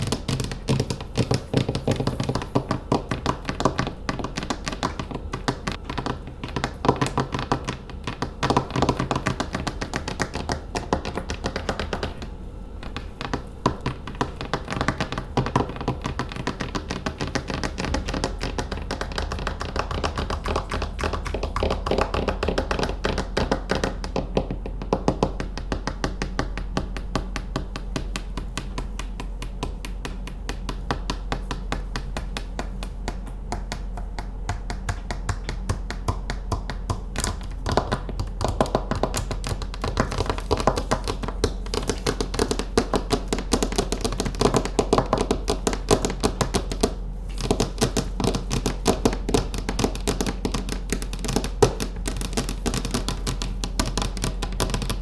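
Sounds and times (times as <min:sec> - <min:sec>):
fast fingernail tapping: 0:00.0 - 0:55.0.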